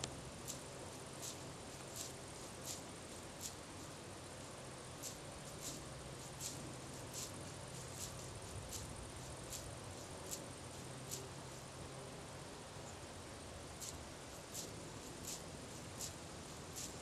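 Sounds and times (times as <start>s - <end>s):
butterfly wings hissing: 0.0s - 4.0s, 4.6s - 11.7s, 13.7s - 17.0s.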